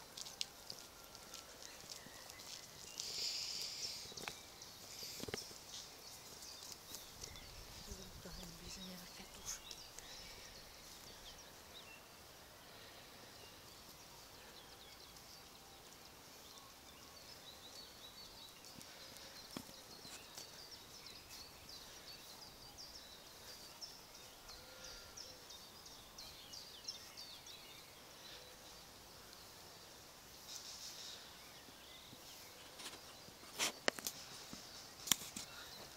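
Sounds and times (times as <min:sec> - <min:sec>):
small birds chirping and trilling: 0:00.0 - 0:35.9.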